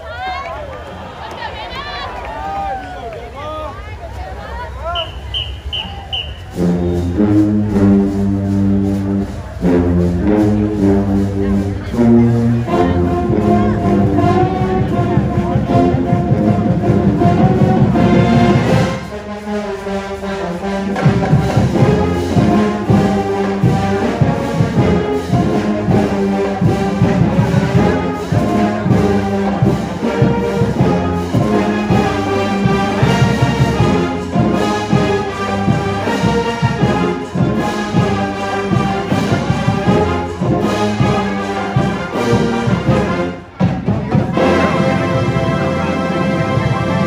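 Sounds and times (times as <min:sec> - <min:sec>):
marching band playing: 0:01.3 - 0:47.0.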